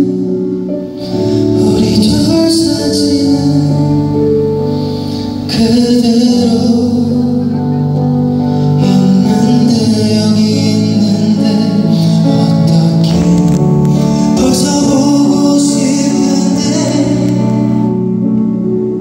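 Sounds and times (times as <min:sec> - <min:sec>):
man singing into a microphone: 0:00.0 - 0:18.3
keyboard and band playing: 0:00.0 - 0:19.0.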